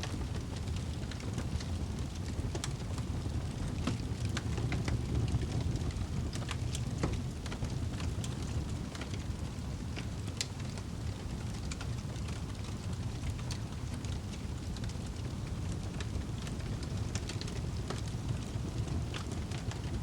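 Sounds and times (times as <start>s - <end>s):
burning logs crackling and popping: 0.0s - 20.0s
low rush of flame: 0.0s - 20.0s.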